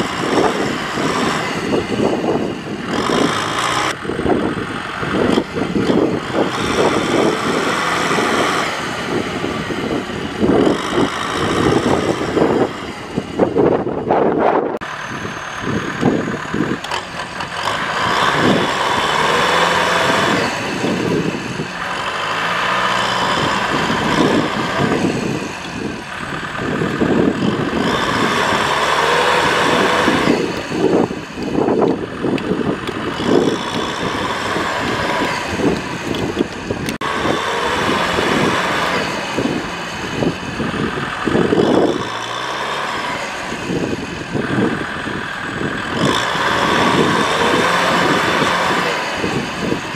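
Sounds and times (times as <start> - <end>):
tractor diesel engine revving: 0.0 - 49.9.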